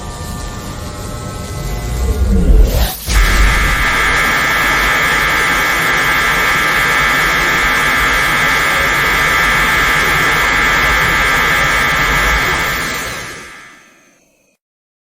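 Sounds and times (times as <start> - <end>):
loud hiss with whining tones: 1.6 - 14.4.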